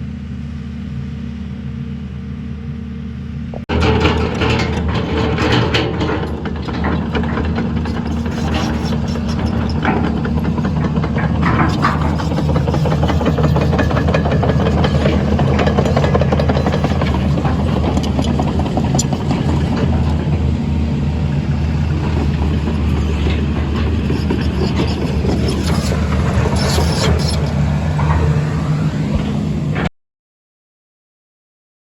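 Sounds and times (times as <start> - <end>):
excavator diesel engine running: 3.5 - 29.9.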